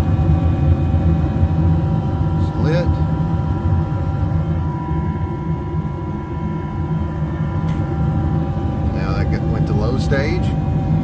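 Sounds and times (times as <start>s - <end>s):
furnace burners rumbling: 0.0s - 11.0s
inducer motor humming: 0.0s - 11.0s.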